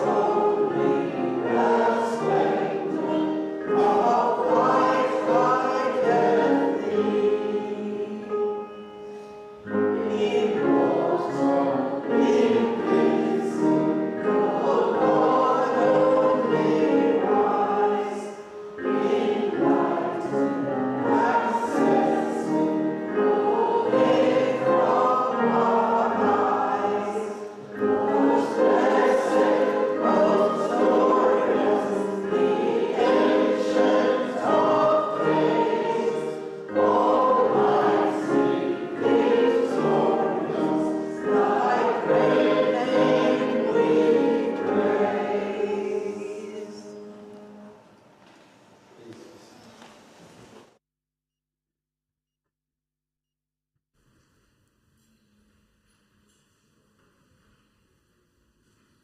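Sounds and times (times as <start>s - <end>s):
congregation singing a hymn: 0.0s - 49.2s.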